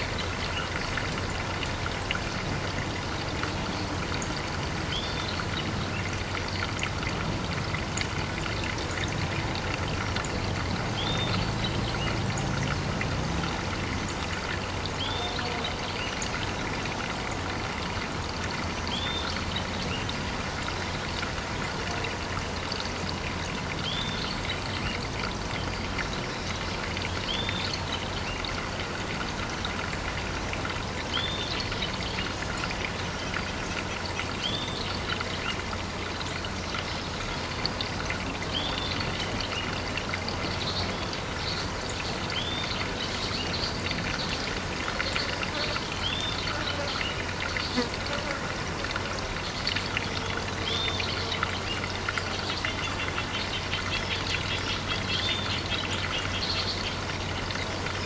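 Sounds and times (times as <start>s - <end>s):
water pouring into a pond: 0.0s - 58.0s.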